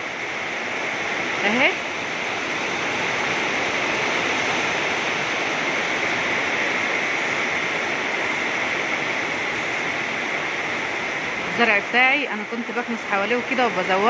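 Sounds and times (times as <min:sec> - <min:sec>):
heavy rain on a rooftop: 0:00.0 - 0:14.0.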